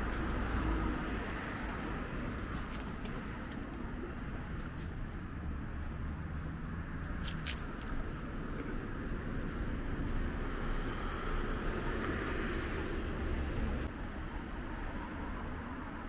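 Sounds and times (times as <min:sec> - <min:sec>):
low traffic rumble: 0:00.0 - 0:16.0
vehicle passing close by: 0:00.0 - 0:16.0.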